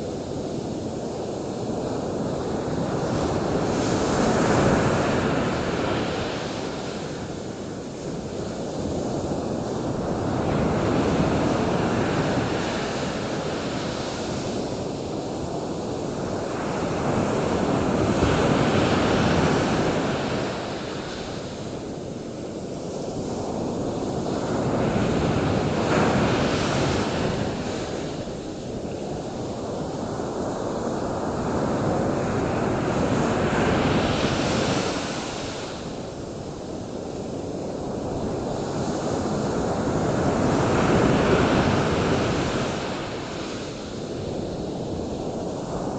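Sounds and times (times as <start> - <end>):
waves breaking and washing in: 0.0 - 45.9.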